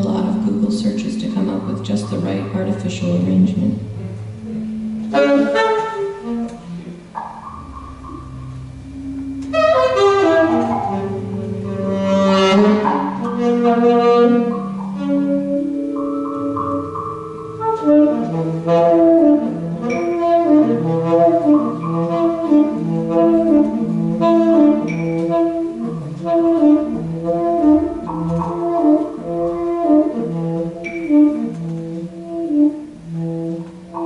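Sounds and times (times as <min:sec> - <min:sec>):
improvised saxophone music: 0:00.0 - 0:34.0.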